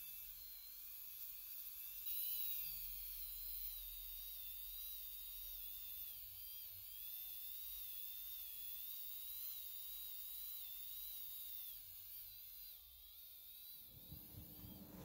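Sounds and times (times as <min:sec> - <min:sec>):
rotary tool whining on metal: 0:01.9 - 0:15.0.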